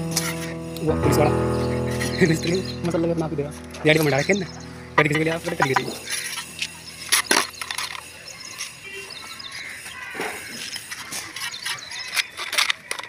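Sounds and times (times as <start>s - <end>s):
faint birds chirping: 0.0s - 12.5s.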